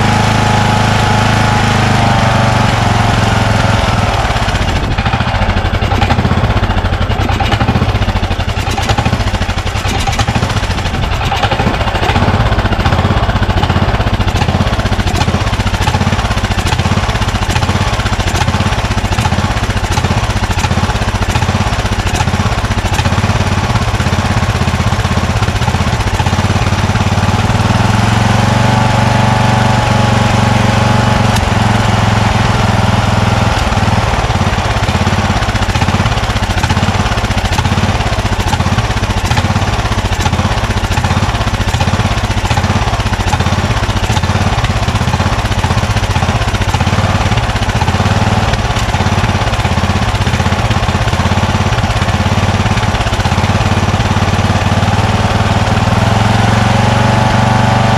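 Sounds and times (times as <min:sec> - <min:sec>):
lawn tractor engine running: 0:00.0 - 0:57.9.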